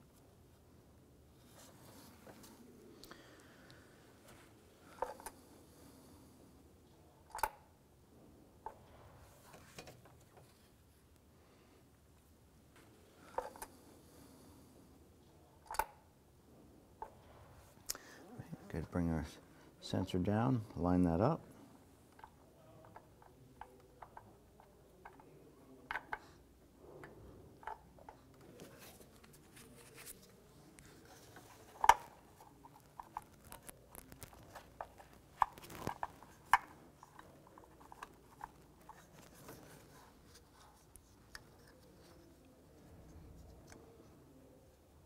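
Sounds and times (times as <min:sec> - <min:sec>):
faint handling noise: 0:01.3 - 0:07.8, 0:08.6 - 0:45.0.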